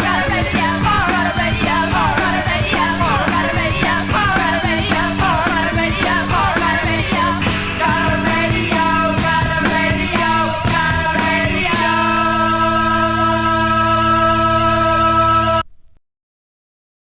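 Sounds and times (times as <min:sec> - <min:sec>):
rock band playing: 0:00.0 - 0:15.5.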